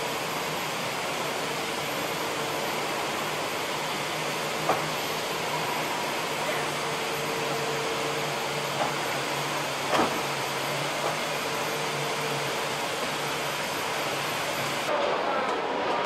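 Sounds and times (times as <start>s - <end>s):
machinery hum and hiss: 0.0s - 16.0s.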